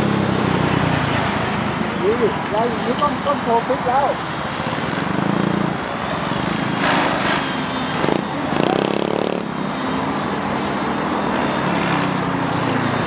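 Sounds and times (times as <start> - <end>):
helicopter rotor blades rushing: 0.0 - 13.0
high electric motor whine: 0.0 - 13.0.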